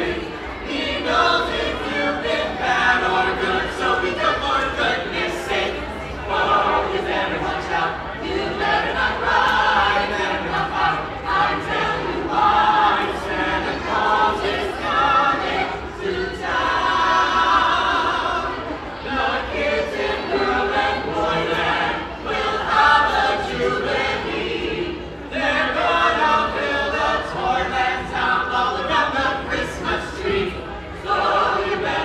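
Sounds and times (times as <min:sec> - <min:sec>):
carolers singing a cappella: 0:00.0 - 0:32.0.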